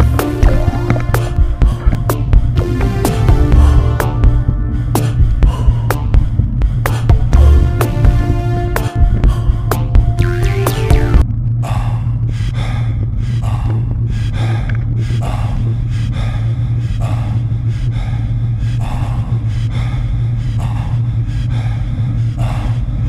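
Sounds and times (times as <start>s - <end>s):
person breathing hard: 0.0s - 10.2s, 11.6s - 23.0s.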